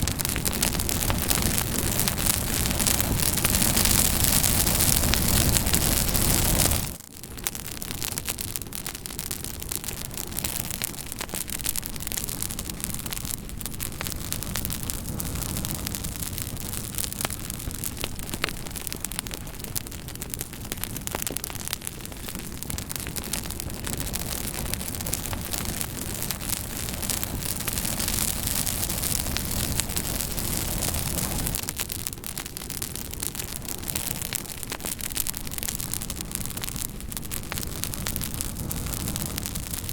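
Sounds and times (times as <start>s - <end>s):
campfire hissing and crackling: 0.0s - 39.9s.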